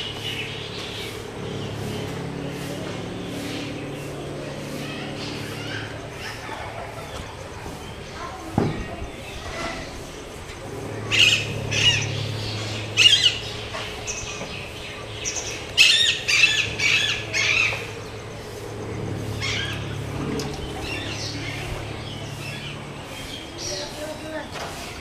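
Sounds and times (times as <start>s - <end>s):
bird squawking: 0.0s - 8.2s, 10.9s - 24.4s
steady low hum: 0.0s - 25.0s.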